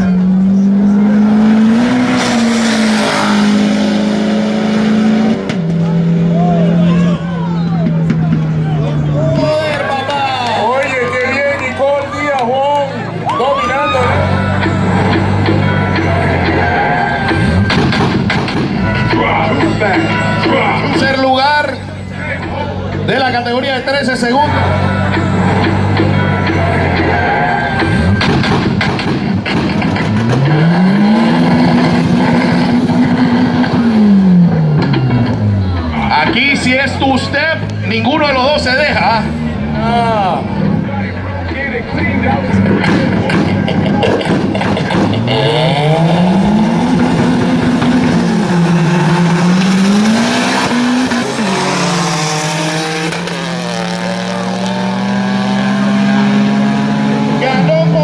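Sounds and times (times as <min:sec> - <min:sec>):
drag car engine revving: 0:00.0 - 0:58.0.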